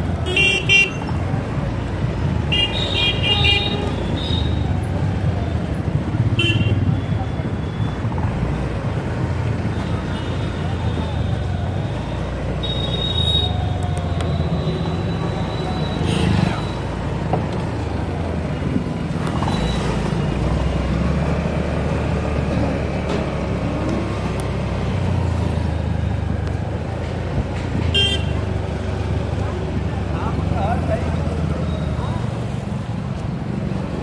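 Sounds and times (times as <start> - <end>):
high tones from passing vehicles: 0.0 - 34.0
road traffic rumble: 0.0 - 34.0.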